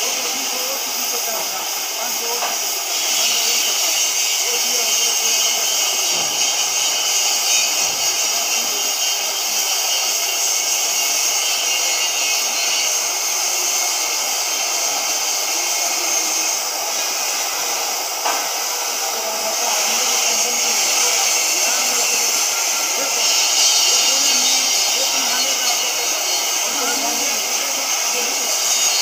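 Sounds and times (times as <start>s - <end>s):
cutting torch hissing: 0.0s - 29.0s.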